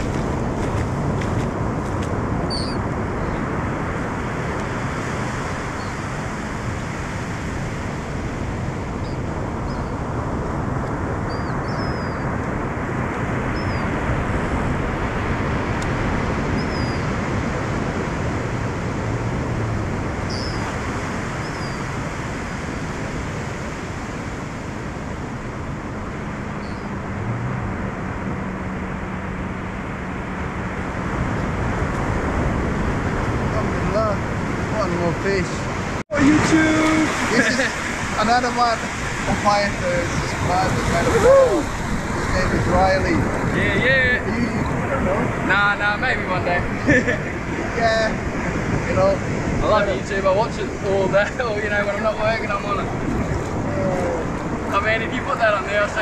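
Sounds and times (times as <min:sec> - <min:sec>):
surf breaking on sandy beach: 0:00.0 - 0:56.0
wind on microphone: 0:00.0 - 0:56.0.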